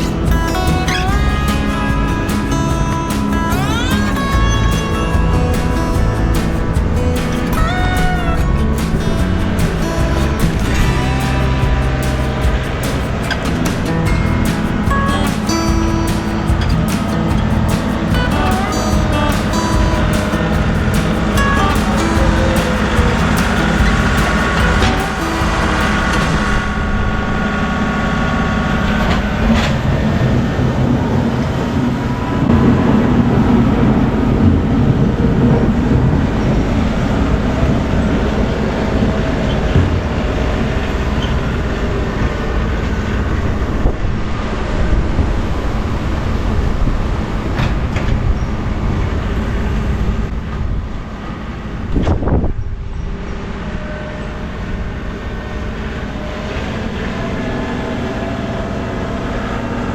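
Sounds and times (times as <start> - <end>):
tractor engine running: 0.0 - 52.3.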